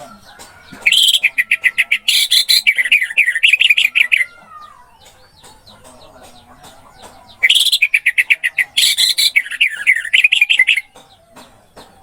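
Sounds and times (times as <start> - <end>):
thrush chattering song: 0.0 - 12.0.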